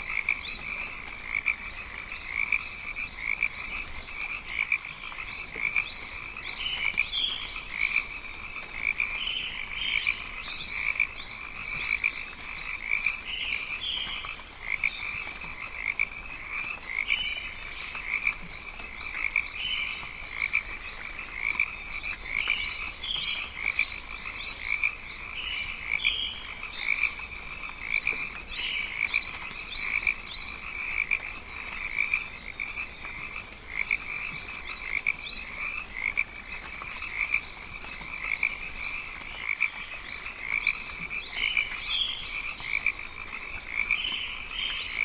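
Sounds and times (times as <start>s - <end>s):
frogs calling: 0.0s - 45.0s.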